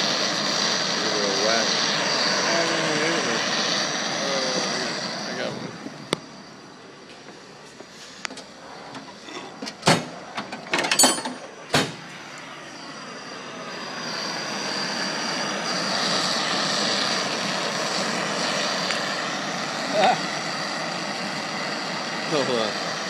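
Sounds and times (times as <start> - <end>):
gas torch hissing: 0.0 - 23.0.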